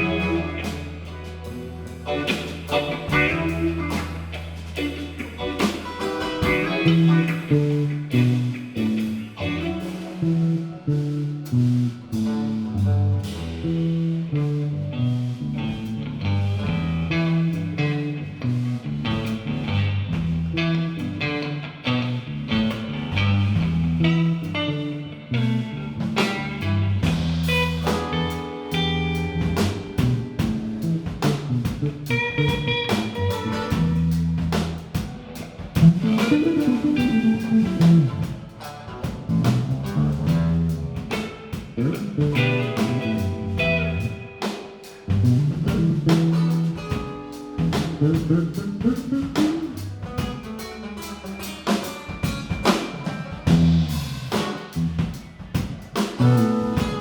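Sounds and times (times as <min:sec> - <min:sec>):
bass line: 0:00.0 - 0:52.2, 0:53.4 - 0:57.0
drum kit: 0:00.0 - 0:57.0
guitar lines: 0:00.0 - 0:57.0.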